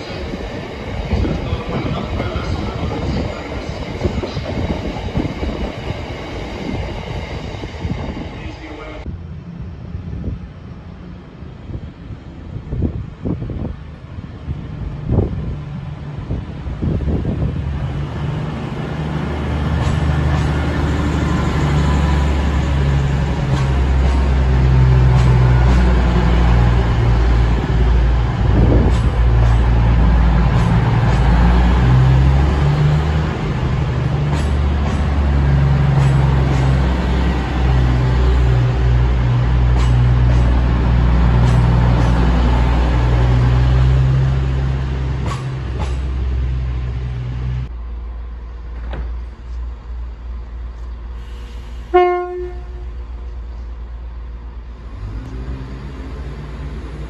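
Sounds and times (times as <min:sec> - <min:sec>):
diesel train engines droning: 0:00.0 - 0:57.0.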